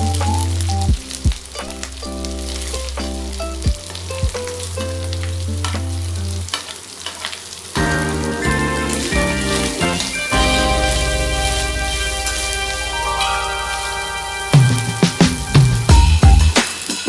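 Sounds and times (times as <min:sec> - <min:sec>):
instrumental background music: 0:00.0 - 0:06.6, 0:07.8 - 0:17.0
crabs sizzling in a pan: 0:00.0 - 0:14.5.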